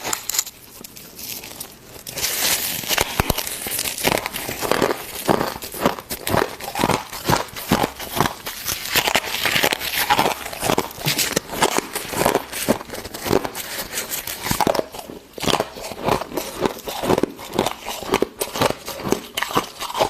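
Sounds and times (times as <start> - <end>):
frost and ice chips crunching: 0.0 - 20.0.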